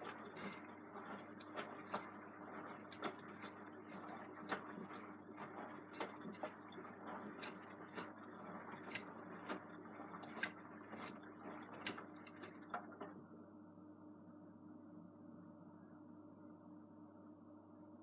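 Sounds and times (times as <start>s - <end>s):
washing machine motor hum: 0.0s - 15.8s.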